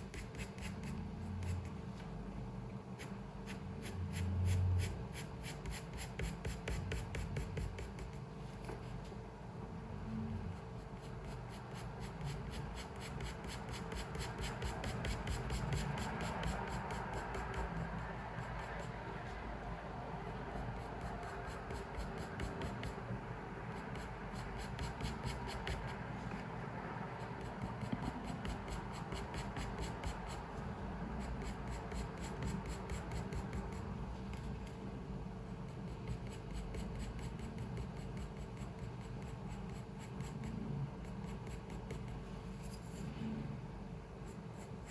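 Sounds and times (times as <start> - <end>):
pencil scratching on paper: 0.0 - 1.8, 3.0 - 9.2, 10.4 - 19.1, 20.3 - 26.4, 27.2 - 34.8, 35.5 - 43.1, 44.2 - 44.9
low steady hum: 0.0 - 44.9.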